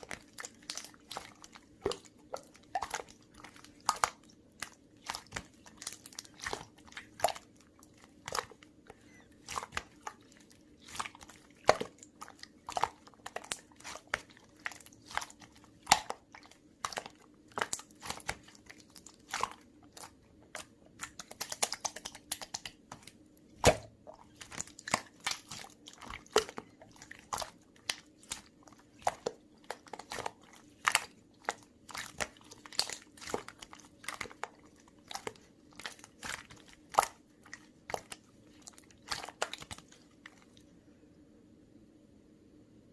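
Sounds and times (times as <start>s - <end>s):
crunching and chewing: 0.0s - 40.6s
faint steady hum: 0.0s - 42.9s.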